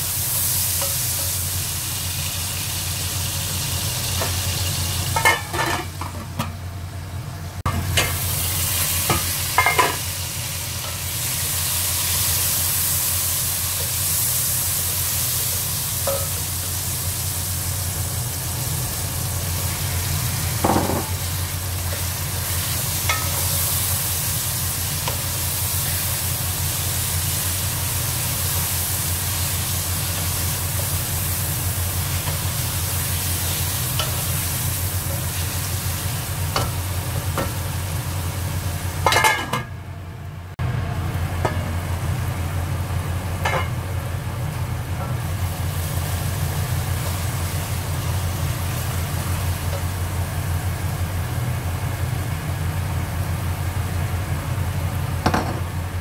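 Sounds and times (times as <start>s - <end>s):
food sizzling in hot oil: 0.0s - 6.7s, 7.5s - 39.6s, 40.6s - 56.0s.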